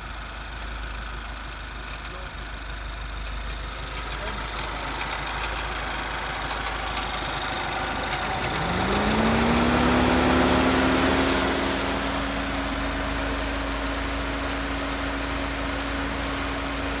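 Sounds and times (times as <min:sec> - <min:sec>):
car engine idling with rattle: 0:00.0 - 0:17.0.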